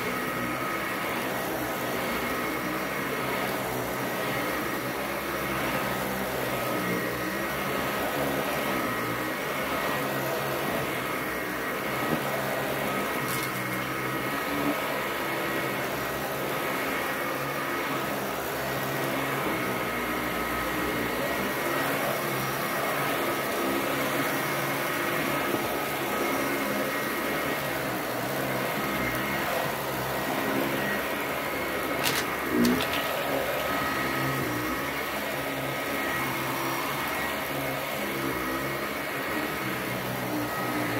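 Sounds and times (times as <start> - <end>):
upright vacuum cleaner running: 0.0 - 40.9.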